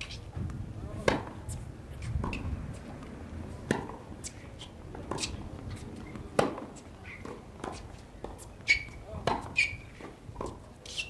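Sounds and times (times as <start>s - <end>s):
tennis ball bouncing: 0.0s - 11.0s
racket hitting tennis ball: 0.9s - 11.0s.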